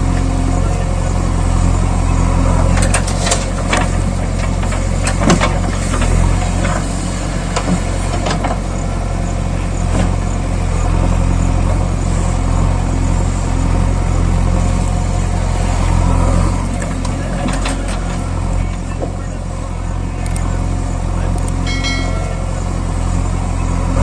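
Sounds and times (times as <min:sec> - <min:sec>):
heavy engine humming: 0:00.0 - 0:24.0.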